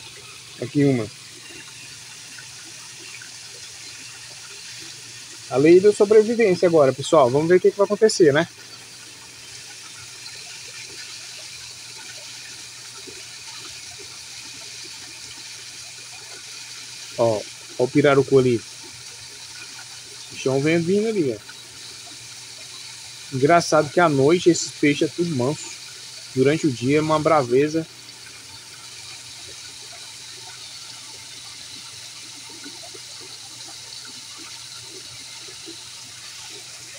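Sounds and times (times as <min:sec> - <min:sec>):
water running into a pond: 0:00.0 - 0:36.9.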